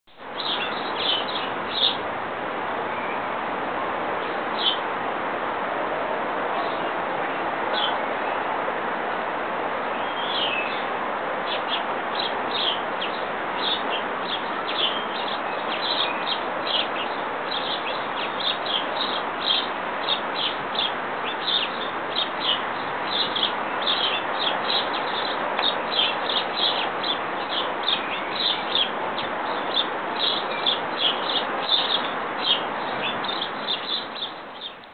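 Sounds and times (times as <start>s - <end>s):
birds chirping: 0.1s - 2.0s, 4.2s - 4.8s, 7.7s - 8.5s, 9.9s - 34.9s
steady background hiss: 0.1s - 34.9s.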